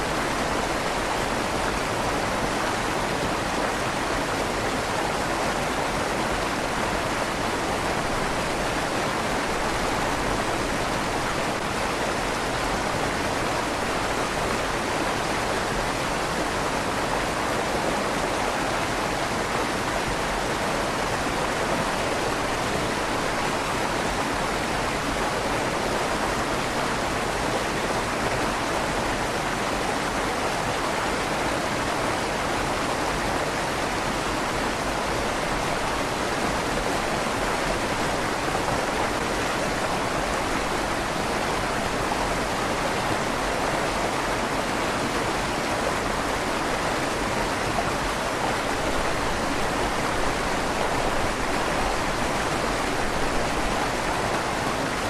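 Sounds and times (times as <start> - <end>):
river water rushing through tunnel: 0.0 - 55.0.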